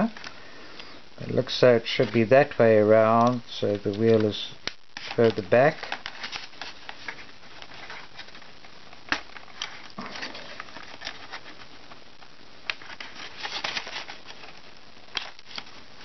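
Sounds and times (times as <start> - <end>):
rustling of foam model: 1.2 - 4.4, 5.0 - 16.0.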